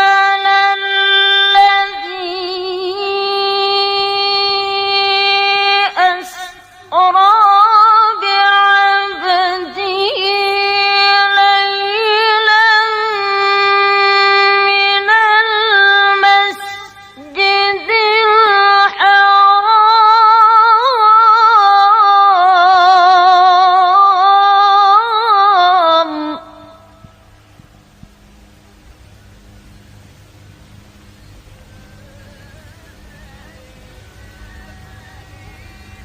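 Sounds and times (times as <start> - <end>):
woman chanting recitation: 0.0 - 27.2, 31.0 - 36.0.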